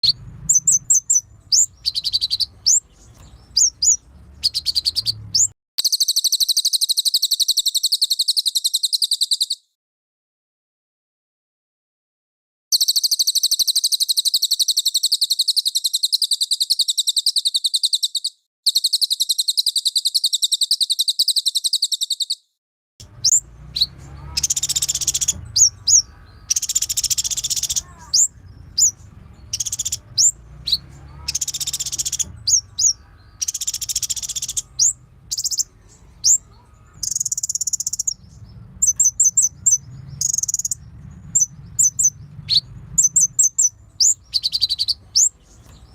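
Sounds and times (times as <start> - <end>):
bird chirps and whistles: 0.0 - 9.7, 12.7 - 22.4, 23.2 - 45.9
buzzy bird trill: 0.0 - 9.7, 12.7 - 45.9.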